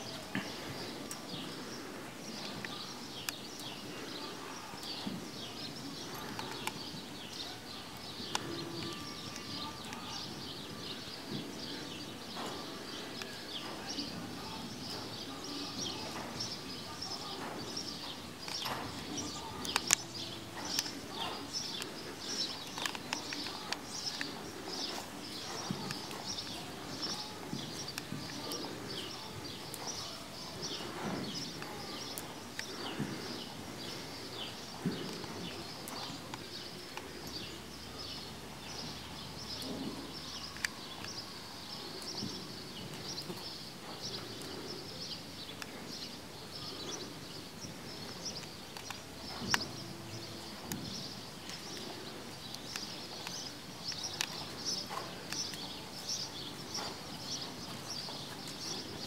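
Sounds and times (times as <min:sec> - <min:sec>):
horse trotting on sand: 0:00.0 - 0:59.0
small birds chirping: 0:00.0 - 0:59.0.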